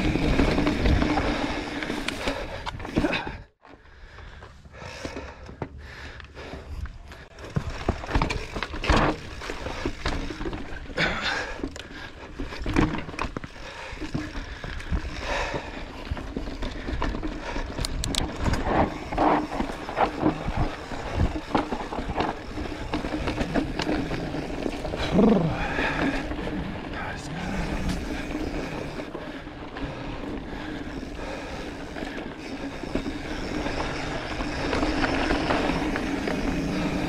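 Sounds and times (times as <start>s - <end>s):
bike knocking and rattling: 0.0s - 37.0s
bike tyres crunching over dirt: 0.0s - 37.0s.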